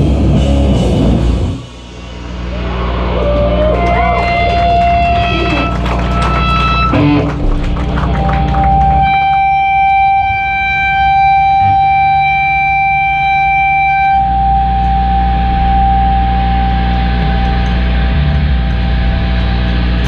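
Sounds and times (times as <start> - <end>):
guitar feedback tone: 0.0 - 20.0
low amplifier drone: 0.0 - 20.0.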